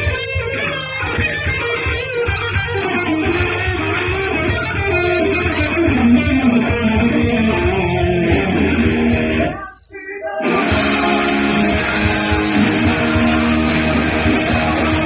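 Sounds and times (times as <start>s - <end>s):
guitar-led instrumental rock: 0.0s - 15.0s.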